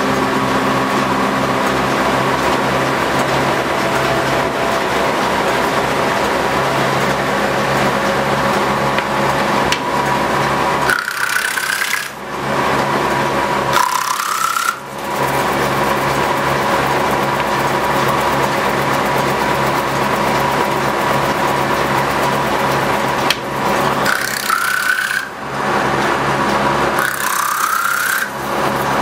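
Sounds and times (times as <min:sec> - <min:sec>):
machine hum: 0:00.0 - 0:29.0
planer rasping wood: 0:00.0 - 0:29.0.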